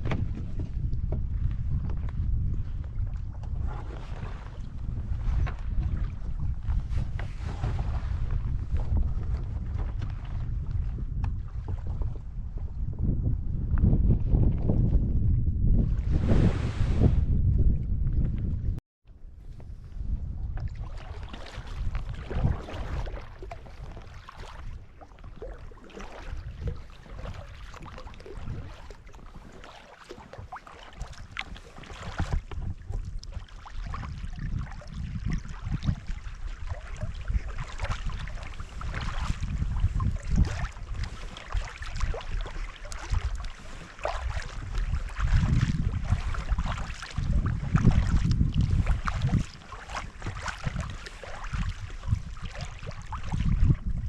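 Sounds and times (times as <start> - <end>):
water splashing and lapping: 0.0 - 12.7, 19.5 - 54.0
wind rumbling on microphone: 0.0 - 54.0.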